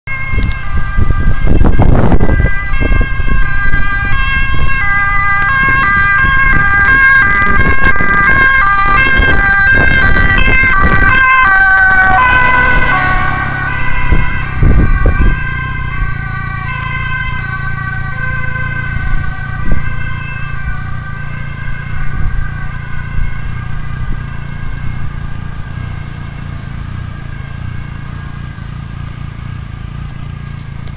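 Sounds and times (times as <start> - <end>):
ambulance two-tone siren: 0.0 - 30.5
car and motorcycle traffic: 0.0 - 30.9.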